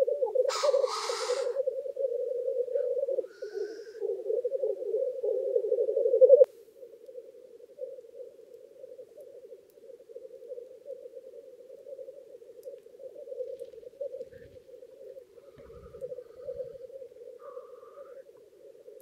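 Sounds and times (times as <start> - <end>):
grouse chorus bubbling coo: 0.0 - 19.0.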